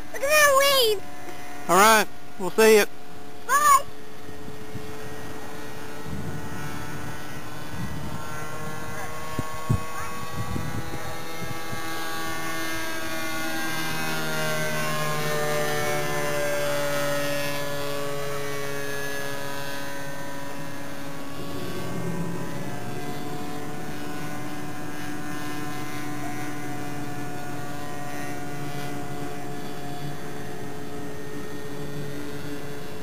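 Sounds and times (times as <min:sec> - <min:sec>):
model airplane engine droning: 0:00.0 - 0:33.0.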